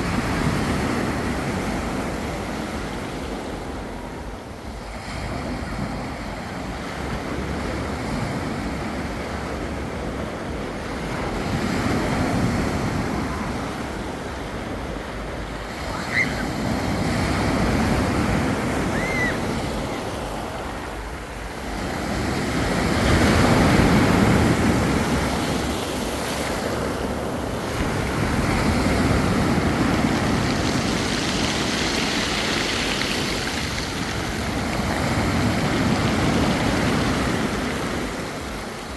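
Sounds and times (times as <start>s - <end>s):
sea waves breaking on beach: 0.0s - 38.9s.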